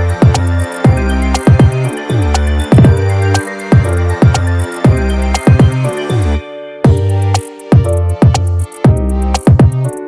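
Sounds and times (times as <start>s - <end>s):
electronic music with bass and drums: 0.0s - 10.0s.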